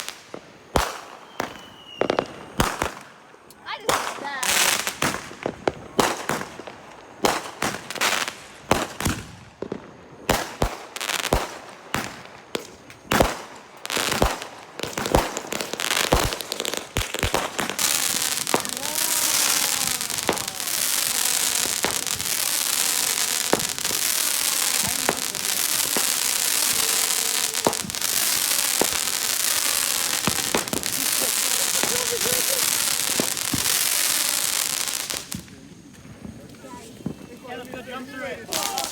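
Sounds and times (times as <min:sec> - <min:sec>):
fireworks bangs and pops: 0:00.0 - 0:38.9
fireworks crackling: 0:00.0 - 0:38.9.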